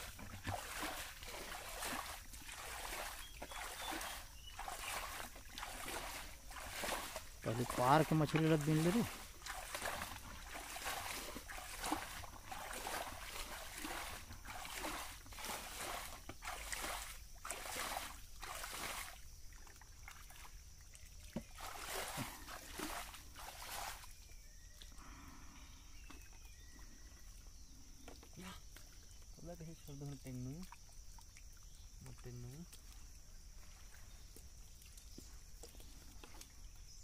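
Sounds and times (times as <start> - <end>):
muddy water splashing: 0.0 - 37.0.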